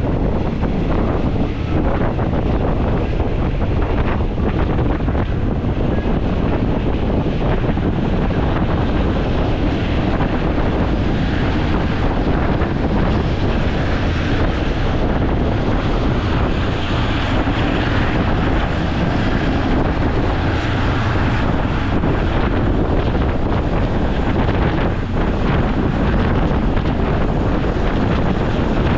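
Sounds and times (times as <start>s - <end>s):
train carriage rumbling on track: 0.0s - 28.9s
wind buffeting microphone: 0.0s - 28.9s.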